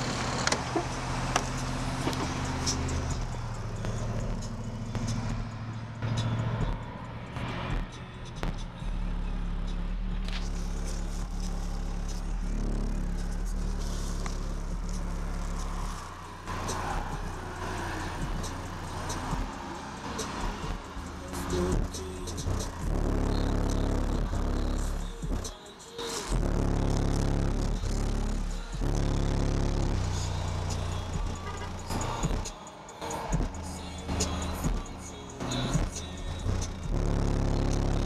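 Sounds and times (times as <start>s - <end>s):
subwoofer playing bass-heavy music: 0.0s - 38.0s.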